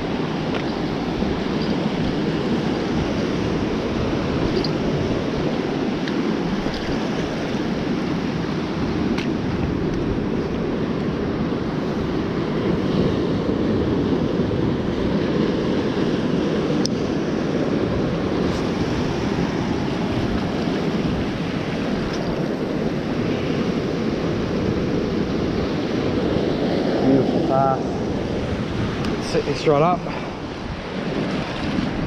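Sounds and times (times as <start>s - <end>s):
ocean waves over rocks: 0.0s - 32.0s
wind on microphone: 0.0s - 32.0s.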